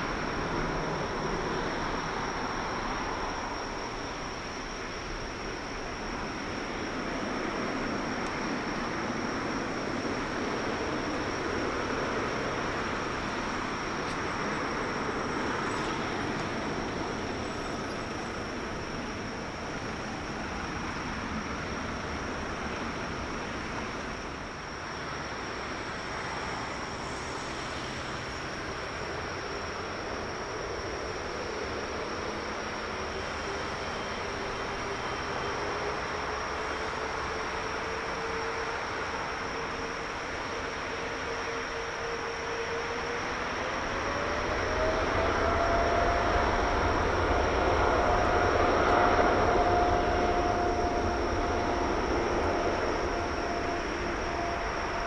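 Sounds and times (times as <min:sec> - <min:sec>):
high engine whine: 0:00.0 - 0:55.0
jet engines rushing: 0:00.0 - 0:55.0.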